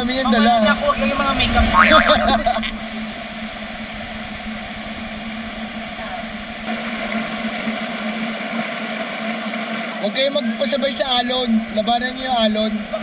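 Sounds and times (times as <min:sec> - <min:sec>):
river rapids rushing: 0:00.0 - 0:13.0
steady low hum: 0:00.0 - 0:13.0.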